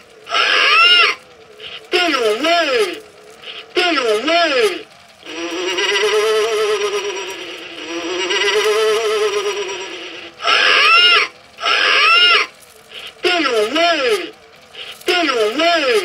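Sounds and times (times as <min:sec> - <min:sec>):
rising and falling voice calls: 0:00.0 - 0:16.0
spooky recorded voice moaning: 0:00.0 - 0:16.0.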